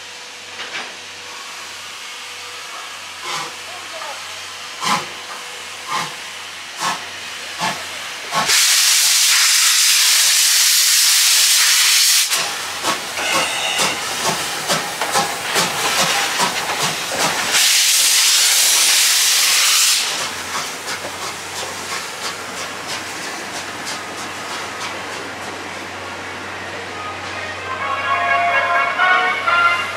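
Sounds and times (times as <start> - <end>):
loud blasts of hissing steam: 1.0 - 25.3
steam locomotive chuffing: 1.3 - 26.1.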